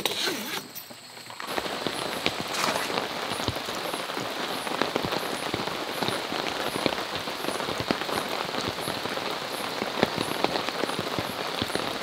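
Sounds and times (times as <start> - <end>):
rain on tarp and gravel: 0.2 - 12.0.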